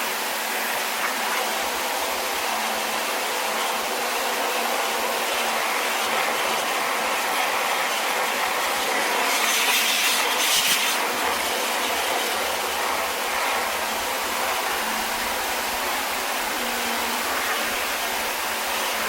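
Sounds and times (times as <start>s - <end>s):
pressure washer spraying metal: 0.0s - 19.0s.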